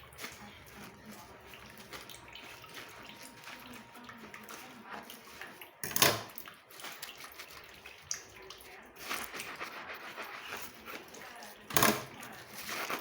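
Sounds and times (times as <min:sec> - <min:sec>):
dishes being handled: 0:00.0 - 0:08.0, 0:09.0 - 0:13.0
water splashing at sink: 0:00.0 - 0:13.0.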